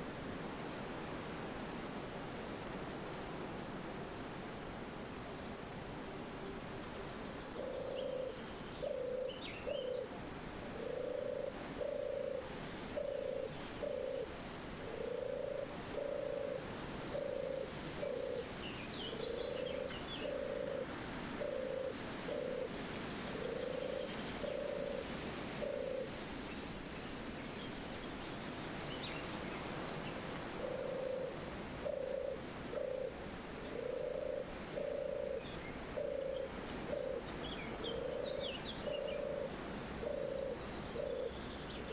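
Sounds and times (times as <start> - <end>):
steady wind-like hiss: 0.0 - 41.9.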